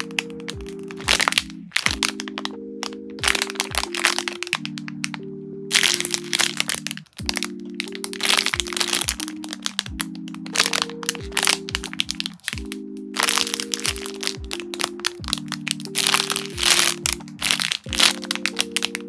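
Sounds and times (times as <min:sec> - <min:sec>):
cellophane bags crinkling: 0:00.0 - 0:19.0.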